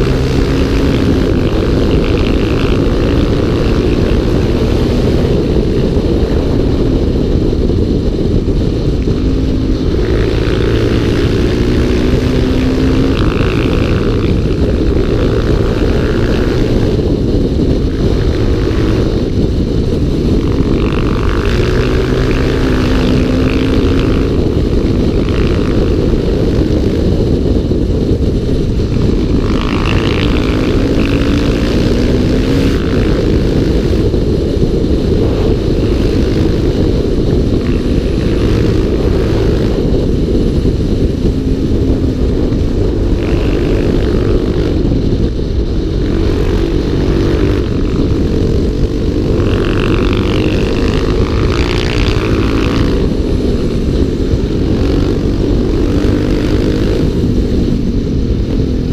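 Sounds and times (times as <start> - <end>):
motorcycle engine revving: 0.0 - 58.9
wind and road noise: 0.0 - 58.9.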